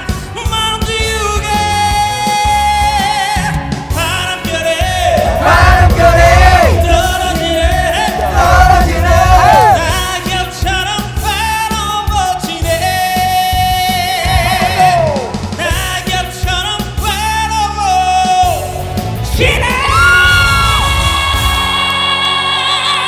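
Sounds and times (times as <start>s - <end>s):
band accompaniment: 0.0s - 23.0s
person singing with vibrato: 1.1s - 20.6s.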